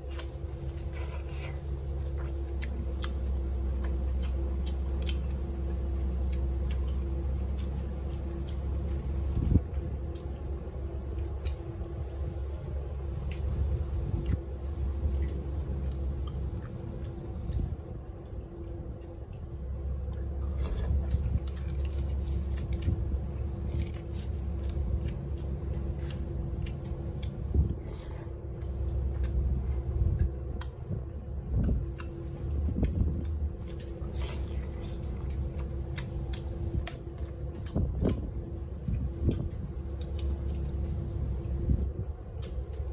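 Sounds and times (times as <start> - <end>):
faint steady hum: 0.0 - 42.9
low rumble: 0.0 - 42.9
person chewing: 0.0 - 42.9.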